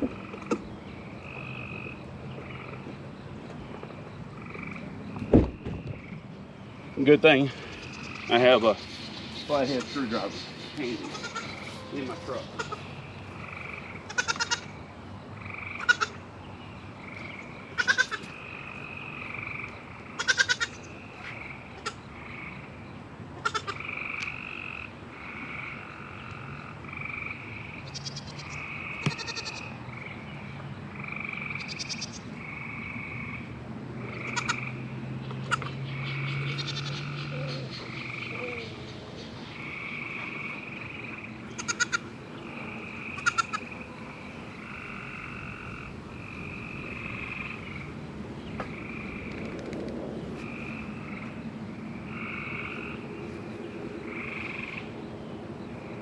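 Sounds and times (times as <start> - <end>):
trilled frog calls: 0.0 - 2.9, 4.3 - 6.2, 6.8 - 16.3, 17.0 - 22.8, 23.4 - 30.2, 30.9 - 48.0, 48.7 - 49.6, 50.4 - 53.1, 54.1 - 54.9
frog chorus: 0.0 - 3.0, 4.0 - 49.8, 50.4 - 56.0.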